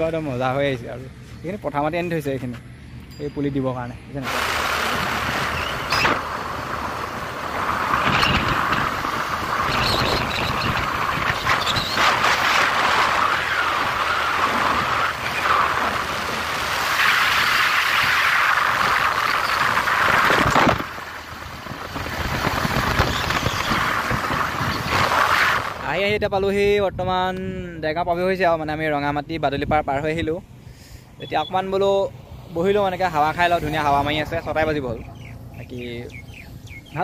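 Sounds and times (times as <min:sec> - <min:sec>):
wind and road noise: 0:00.0 - 0:37.0.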